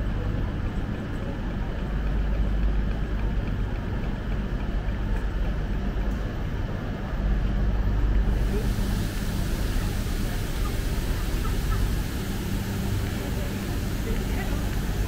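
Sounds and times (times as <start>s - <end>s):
idling train low hum: 0.0s - 15.0s.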